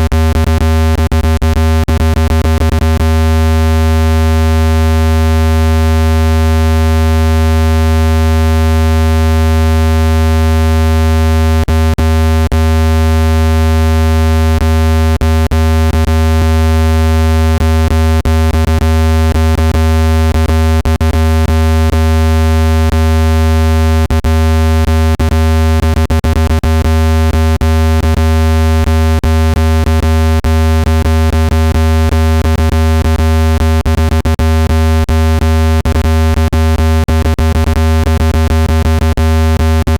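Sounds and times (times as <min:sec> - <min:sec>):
deep synthesized hum tone: 0:00.0 - 0:39.9.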